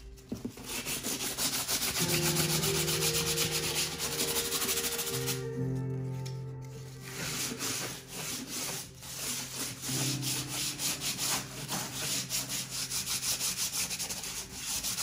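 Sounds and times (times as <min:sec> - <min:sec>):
background music with held notes: 0:00.0 - 0:14.6
sanding block rubbing painted surface: 0:00.5 - 0:05.6, 0:07.0 - 0:15.0.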